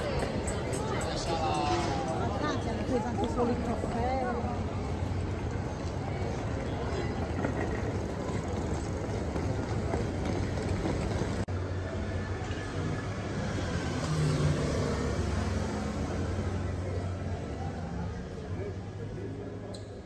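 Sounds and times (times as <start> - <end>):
street noise: 0.0 - 20.0.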